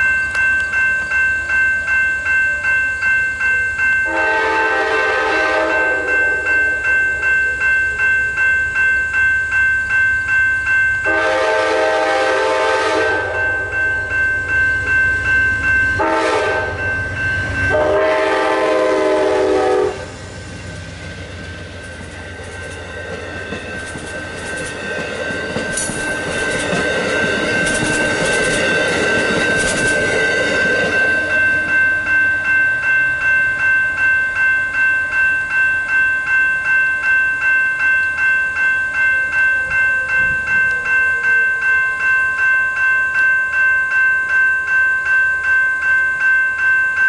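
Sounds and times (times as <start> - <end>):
train wheels rumbling on rails: 0.0 - 43.2
crossing warning bell ringing: 0.0 - 47.0.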